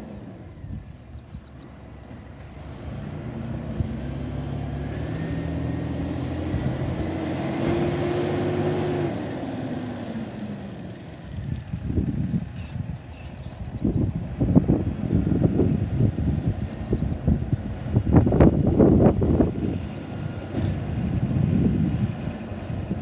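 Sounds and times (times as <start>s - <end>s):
garbage truck diesel engine revving: 2.1s - 12.5s, 13.9s - 23.0s.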